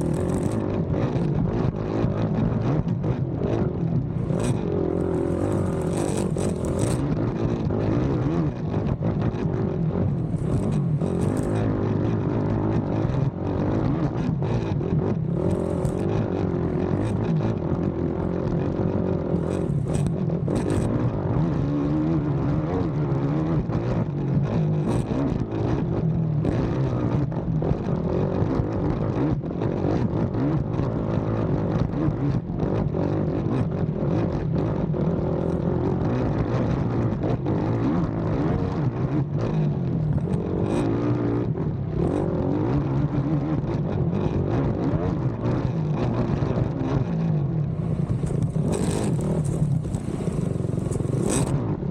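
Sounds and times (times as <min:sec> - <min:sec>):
atv engine revving hard: 0:00.0 - 0:23.7, 0:24.6 - 0:25.7, 0:30.5 - 0:43.0, 0:46.0 - 0:51.9.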